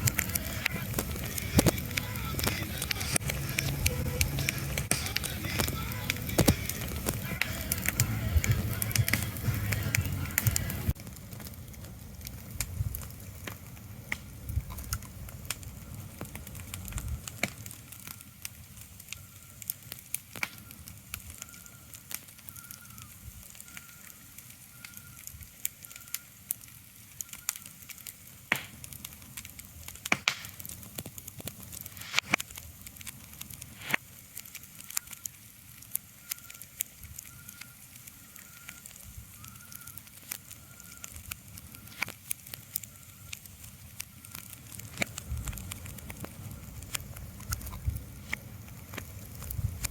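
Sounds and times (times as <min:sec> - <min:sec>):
sharp crackles and pops: 0:00.0 - 0:49.9.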